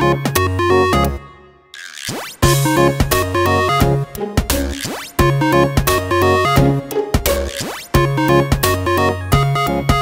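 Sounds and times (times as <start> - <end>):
electronic synth music: 0.0 - 10.0.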